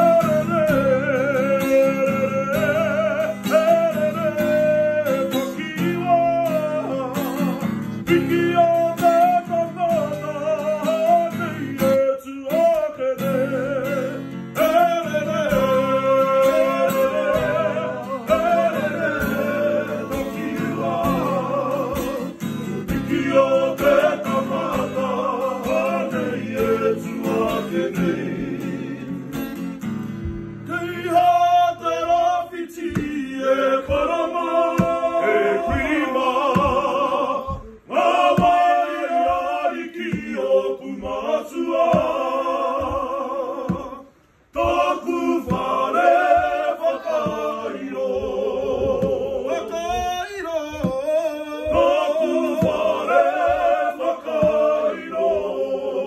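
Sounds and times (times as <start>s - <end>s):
men singing together: 0.0s - 56.0s
strummed acoustic guitar: 0.0s - 56.0s.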